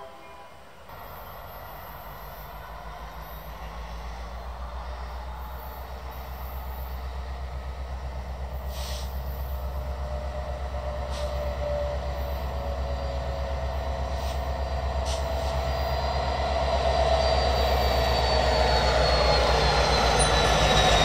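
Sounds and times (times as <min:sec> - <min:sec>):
diesel locomotive engine rumbling: 0:00.0 - 0:21.0
train whine: 0:00.0 - 0:21.0.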